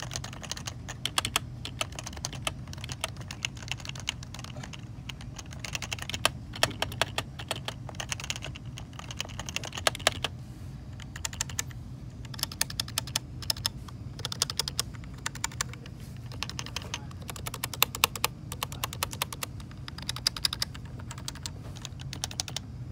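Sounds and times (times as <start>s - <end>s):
keyboard typing: 0.0s - 10.3s, 10.9s - 22.7s
faint low hum: 0.0s - 22.9s.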